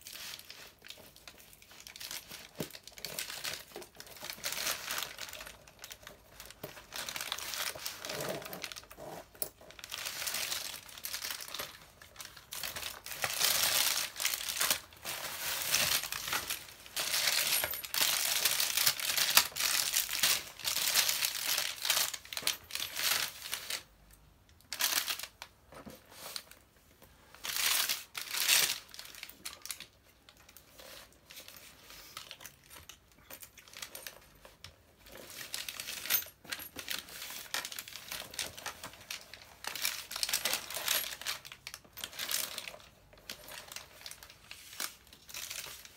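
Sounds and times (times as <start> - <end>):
plastic packaging crinkling: 0.0 - 24.0, 24.6 - 25.5, 27.4 - 45.9.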